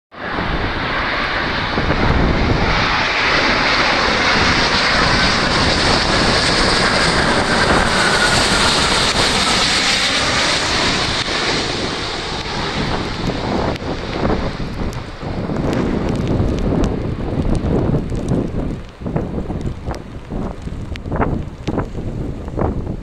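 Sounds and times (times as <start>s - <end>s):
jet aircraft passing overhead: 0.1s - 23.0s.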